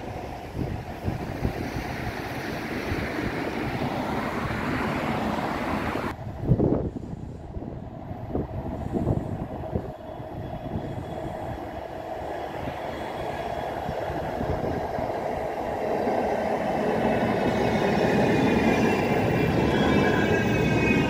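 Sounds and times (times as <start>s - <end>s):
tram passing on track: 0.0s - 21.0s.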